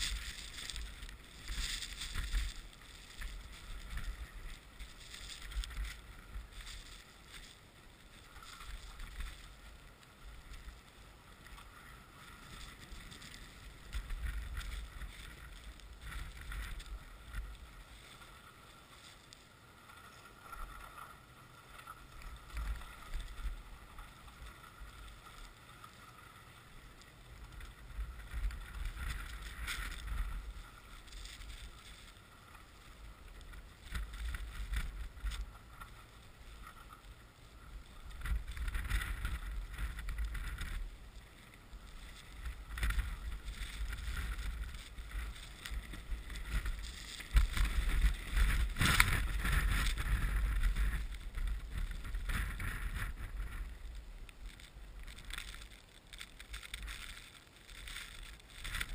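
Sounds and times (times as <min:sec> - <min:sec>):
steady wind hiss: 0:00.0 - 0:58.9.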